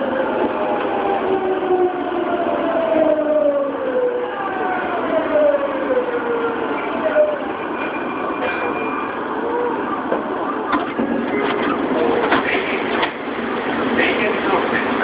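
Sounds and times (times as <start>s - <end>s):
train inverter whine: 0.0s - 15.0s.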